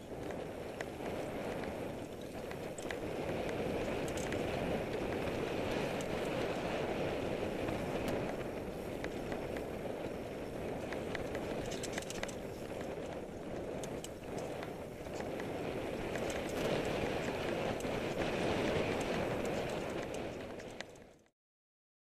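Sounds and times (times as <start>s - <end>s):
bike tyres rushing on dirt: 0.0s - 21.3s
small clicks and rattles: 0.0s - 21.3s.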